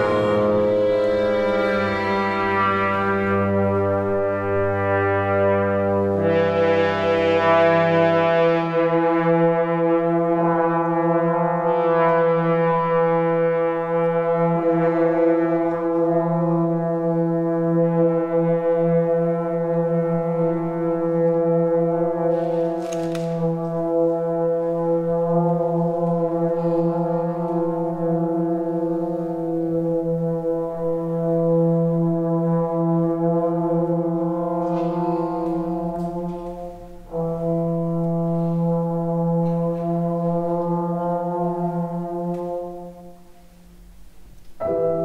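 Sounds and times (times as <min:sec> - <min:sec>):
orchestra sustained chord: 0:00.0 - 0:45.0.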